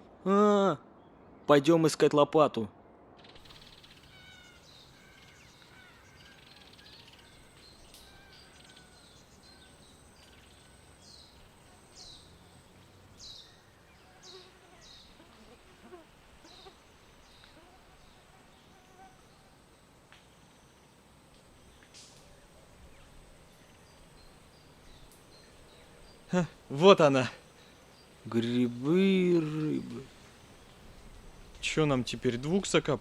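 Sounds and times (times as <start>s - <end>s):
low hiss: 0.0s - 33.0s
birds chirping: 3.2s - 33.0s.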